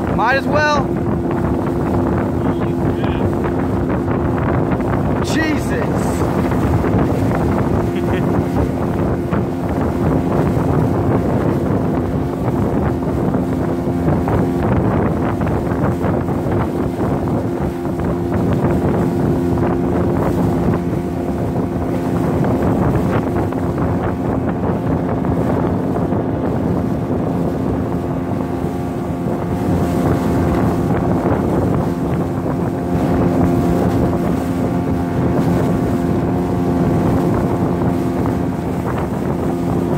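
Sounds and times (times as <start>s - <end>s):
outboard motor running: 0.0s - 39.9s
wind on microphone: 0.0s - 39.9s.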